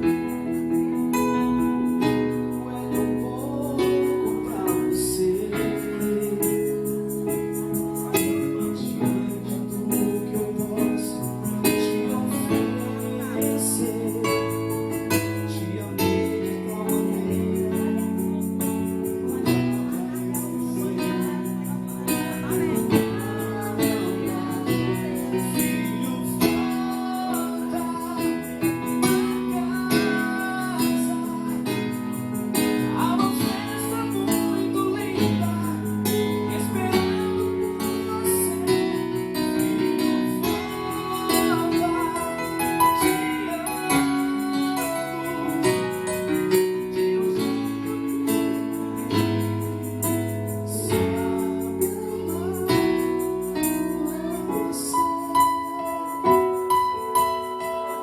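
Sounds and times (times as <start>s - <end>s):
cajon beat: 0.0s - 58.0s
jingle tambourine: 0.0s - 58.0s
keyboard chords: 0.0s - 58.0s.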